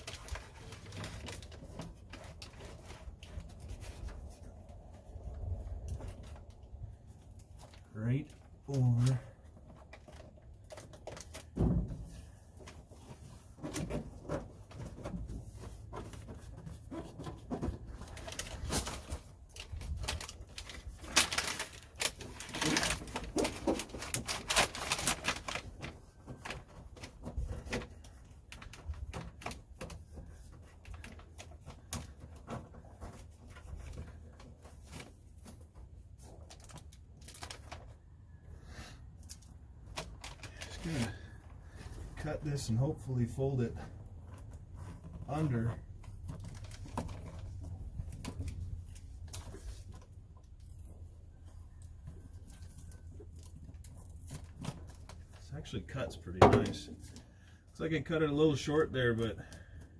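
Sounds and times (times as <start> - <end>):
sheet crinkling and rustling: 0.0 - 38.2, 39.1 - 59.9.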